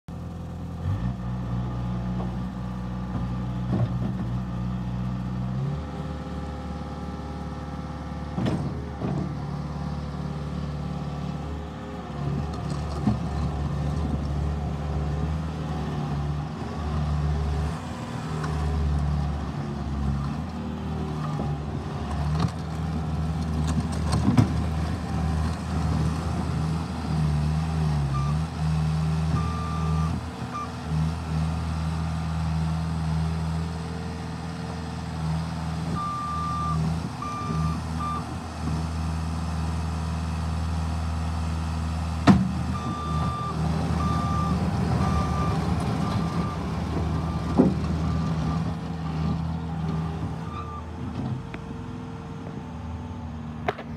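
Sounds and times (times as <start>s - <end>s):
diesel engine running: 0.1s - 53.9s.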